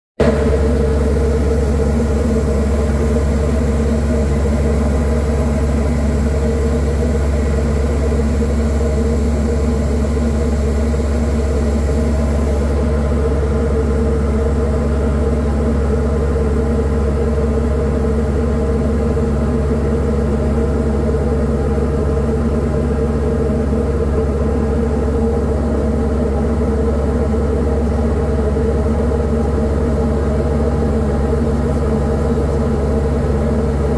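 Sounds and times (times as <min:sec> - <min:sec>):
aircraft engine droning in cabin: 0:00.2 - 0:33.9.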